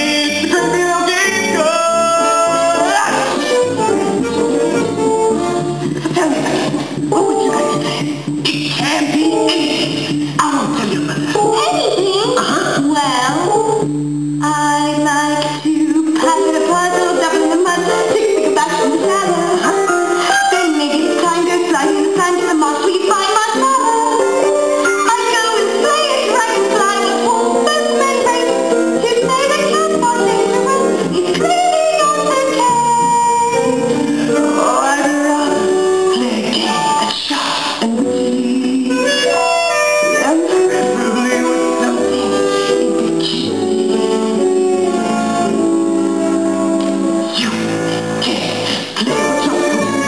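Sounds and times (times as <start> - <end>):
young voices singing: 0.0 - 13.9, 14.5 - 39.5, 46.8 - 50.0
instrumental accompaniment: 0.0 - 50.0.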